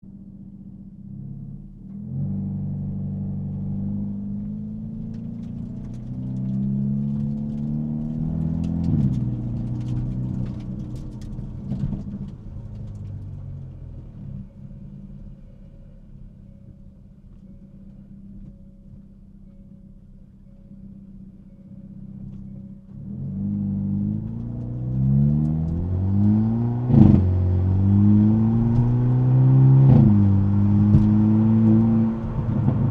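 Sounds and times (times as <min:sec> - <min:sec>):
car engine idling: 0:00.0 - 0:32.9
car engine revving: 0:00.2 - 0:16.3, 0:20.0 - 0:32.9
exhaust crackles and pops: 0:00.2 - 0:32.9.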